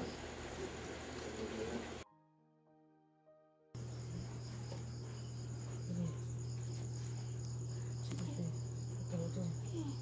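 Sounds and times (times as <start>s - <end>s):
crickets chirping: 0.0s - 2.0s, 3.8s - 10.0s
electric fan motor hum: 0.0s - 2.0s, 3.8s - 10.0s.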